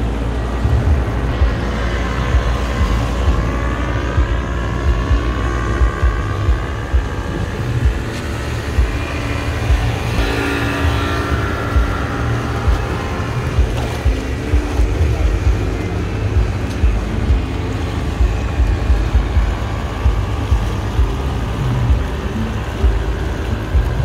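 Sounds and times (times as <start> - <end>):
outboard motorboat rumble: 0.0 - 24.0
wind buffeting microphone: 0.0 - 24.0.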